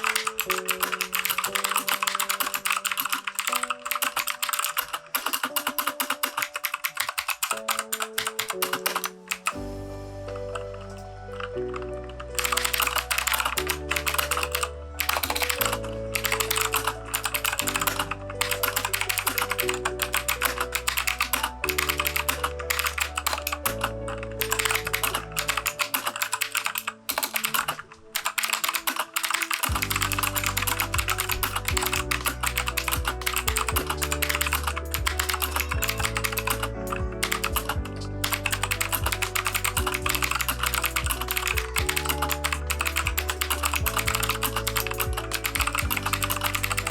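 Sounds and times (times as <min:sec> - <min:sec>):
fast mechanical keyboard typing: 0:00.0 - 0:09.6, 0:11.3 - 0:46.9.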